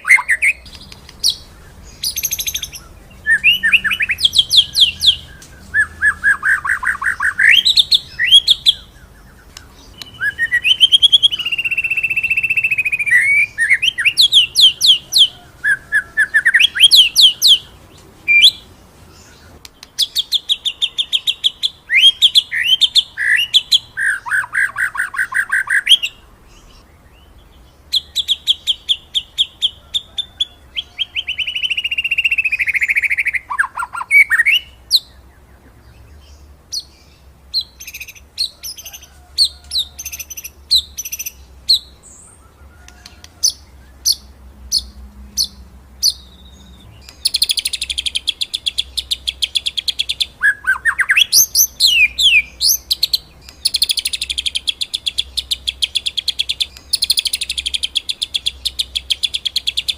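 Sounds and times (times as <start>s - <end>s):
songbird trills and whistles: 0.0s - 27.3s, 27.9s - 36.9s, 37.5s - 59.9s.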